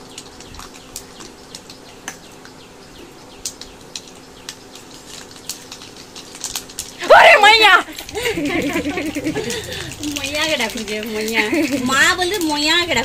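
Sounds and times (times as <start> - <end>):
faint steady hum: 0.0 - 13.0
seeds sizzling in hot oil: 0.0 - 13.0
small pops and crackles: 0.0 - 13.0.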